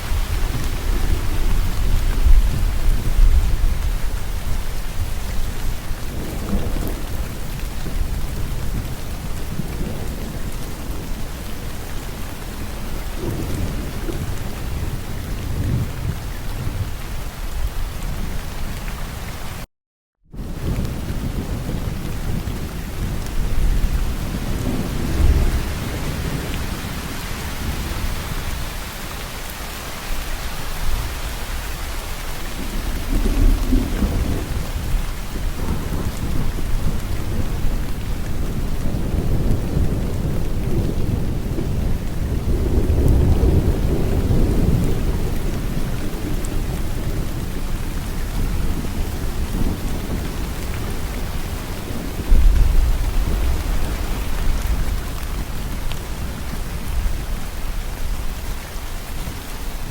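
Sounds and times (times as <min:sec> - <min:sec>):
rolling thunder rumbles: 0:00.0 - 0:18.8, 0:20.3 - 0:29.5, 0:30.2 - 0:59.9
heavy rain falling: 0:00.0 - 0:19.7, 0:20.3 - 0:59.9.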